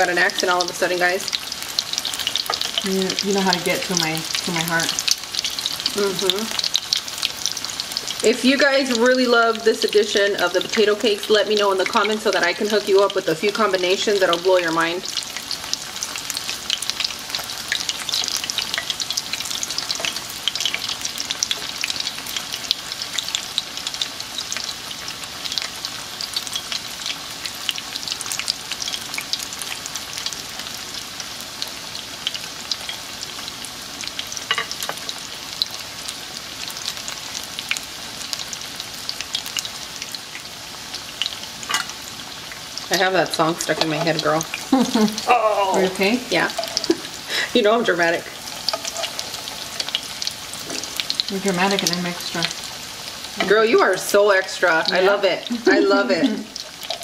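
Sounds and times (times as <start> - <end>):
oil sizzling in skillet: 0.0 - 57.0.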